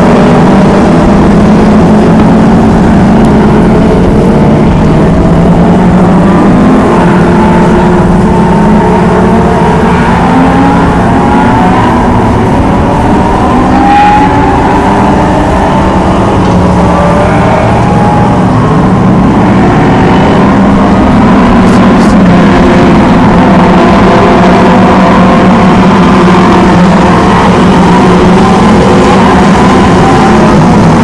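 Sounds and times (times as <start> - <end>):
stock car engines racing: 0.0 - 31.0.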